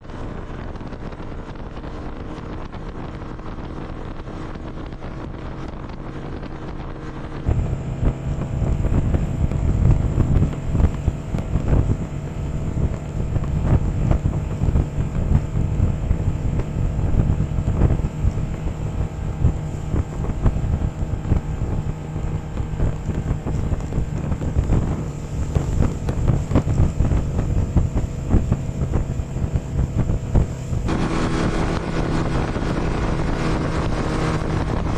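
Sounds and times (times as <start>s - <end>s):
snowmobile engine running: 0.0s - 34.9s
wind buffeting microphone: 0.0s - 34.9s.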